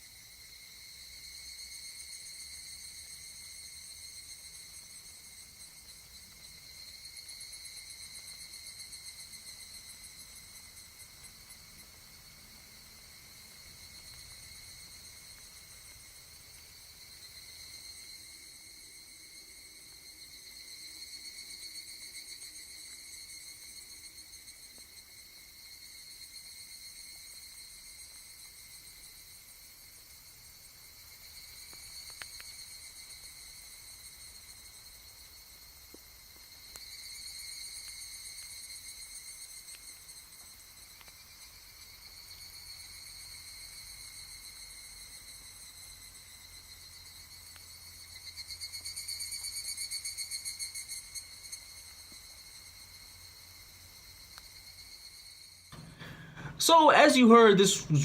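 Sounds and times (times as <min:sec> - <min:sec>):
cicadas calling: 0:00.0 - 0:58.0.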